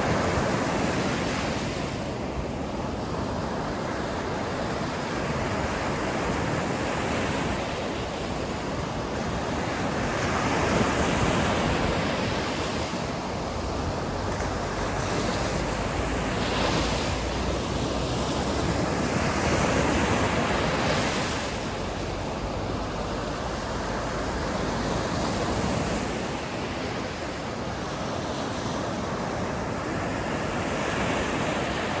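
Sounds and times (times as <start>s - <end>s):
sea waves breaking on shore: 0.0s - 32.0s
wind: 0.0s - 32.0s.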